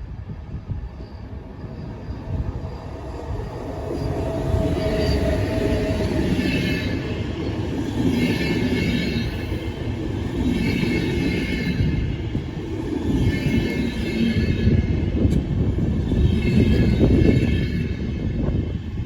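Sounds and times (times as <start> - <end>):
high train whine: 0.0 - 19.0
train rumble: 0.0 - 19.0.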